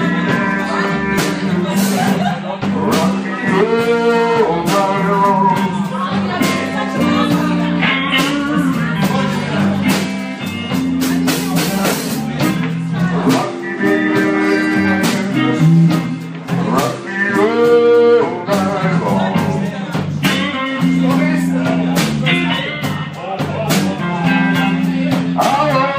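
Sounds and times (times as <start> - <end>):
drum kit: 0.0 - 25.9
electric guitar: 0.0 - 25.9
man singing into a microphone: 0.0 - 25.9.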